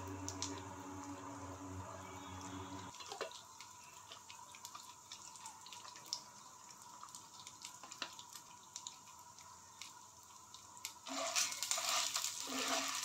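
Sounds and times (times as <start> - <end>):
faint steady hum: 0.0 - 11.8
oil crackling under popcorn kernels: 0.0 - 13.0.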